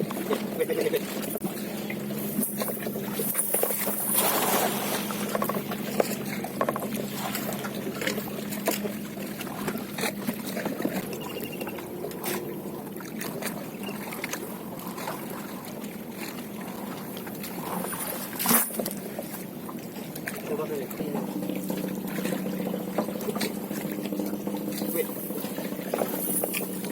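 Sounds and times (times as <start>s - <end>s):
boat engine hum: 0.0s - 26.9s
water noise: 0.0s - 26.9s.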